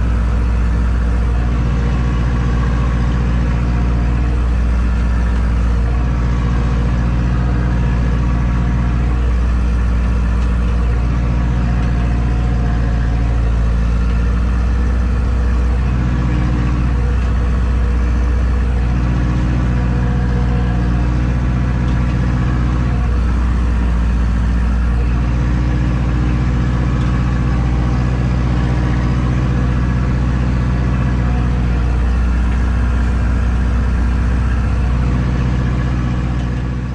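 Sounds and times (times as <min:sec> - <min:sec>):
tractor diesel engine droning: 0:00.0 - 0:36.9.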